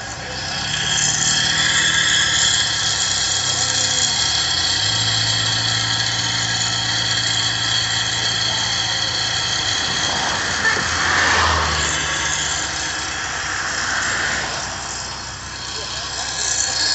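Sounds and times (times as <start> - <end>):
heavy crane engine running: 0.0 - 16.9.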